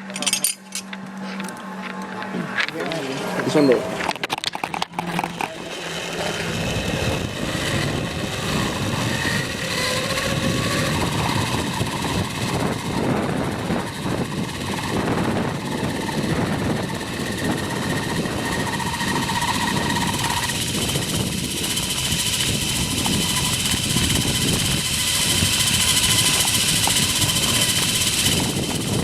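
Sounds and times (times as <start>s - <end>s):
zipline pulleys whirring: 0.0s - 29.0s.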